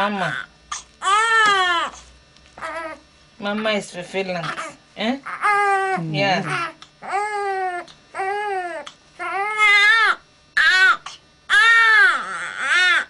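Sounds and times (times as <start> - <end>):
infant crying: 0.2 - 2.0, 2.6 - 3.0, 4.4 - 13.0.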